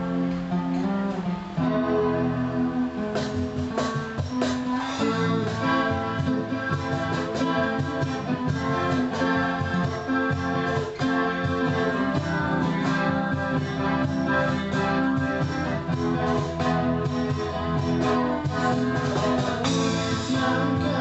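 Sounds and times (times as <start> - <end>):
instrumental guitar music: 0.0 - 21.0.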